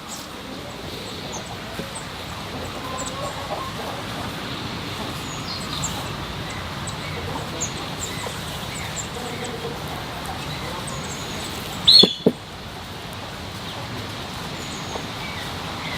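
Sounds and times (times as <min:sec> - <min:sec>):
small birds chirping: 0:00.0 - 0:15.9
steady background noise: 0:00.0 - 0:15.9.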